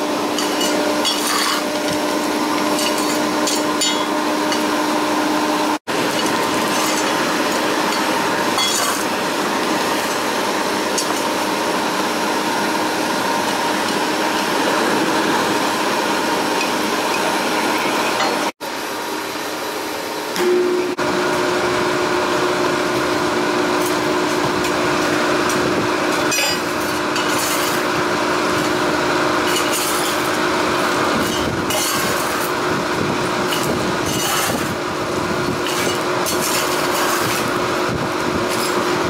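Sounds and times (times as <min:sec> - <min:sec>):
metalworking equipment rushing: 0:00.0 - 0:18.5, 0:20.4 - 0:39.0.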